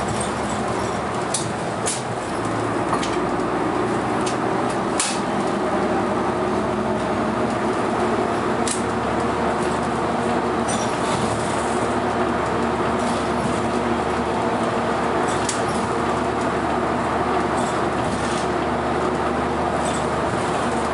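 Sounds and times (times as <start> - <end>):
bus engine droning: 0.0 - 20.9
road and tyre noise: 0.0 - 20.9.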